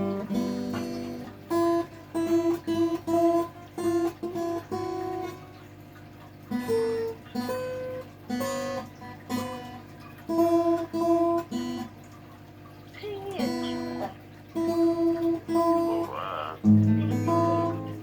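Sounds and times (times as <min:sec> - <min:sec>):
acoustic guitar being tuned: 0:00.0 - 0:18.0.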